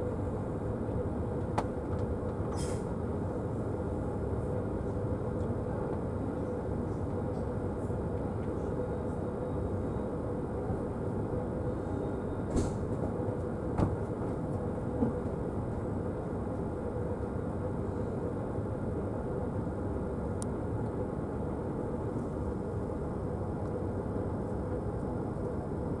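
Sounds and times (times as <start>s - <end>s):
train carriage rumbling on rails: 0.0s - 26.0s.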